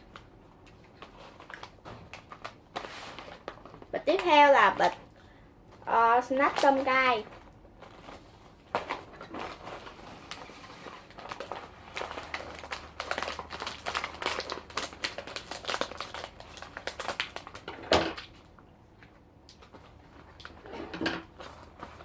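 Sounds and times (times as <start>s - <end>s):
plastic snack bag crinkling: 0.0s - 5.1s, 5.7s - 18.5s, 19.5s - 22.0s.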